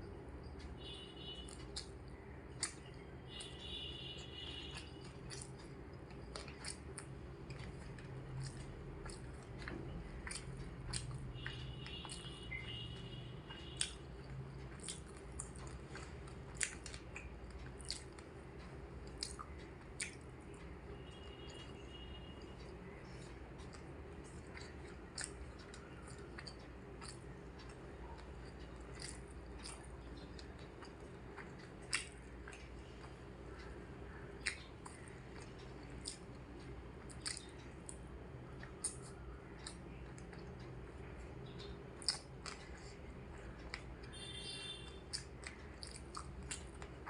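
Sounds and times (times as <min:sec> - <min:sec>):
steady low hum: 0:00.0 - 0:47.0
person chewing food: 0:00.4 - 0:47.0.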